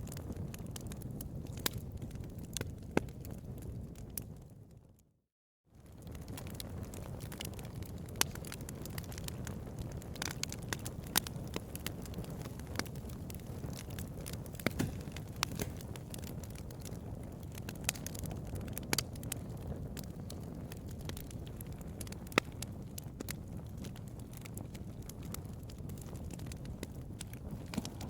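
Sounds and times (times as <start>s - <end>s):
bonfire crackling: 0.0s - 4.9s, 5.8s - 28.0s.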